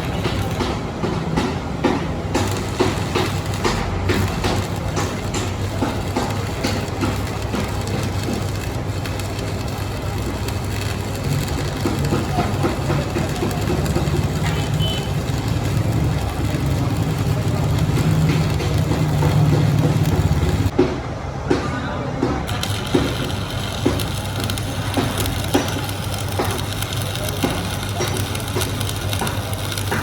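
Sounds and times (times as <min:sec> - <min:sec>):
machine motor humming: 0:02.2 - 0:20.7, 0:22.5 - 0:30.0.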